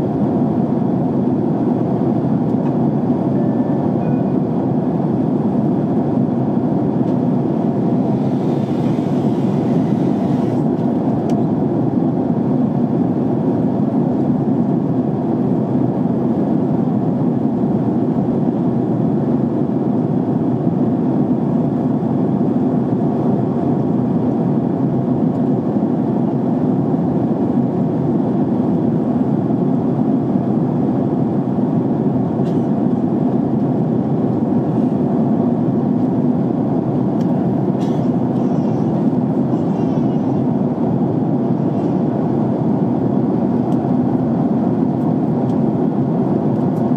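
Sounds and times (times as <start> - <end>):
jet cabin engine noise: 0.0 - 46.9.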